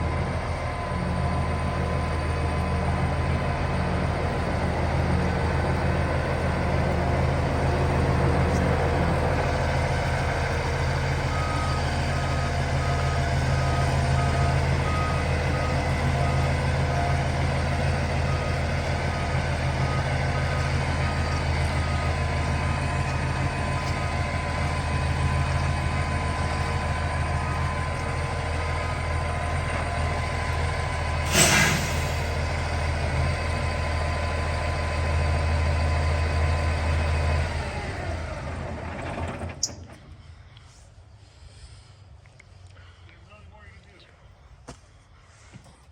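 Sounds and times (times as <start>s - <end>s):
diesel truck engine idling: 0.0s - 45.5s.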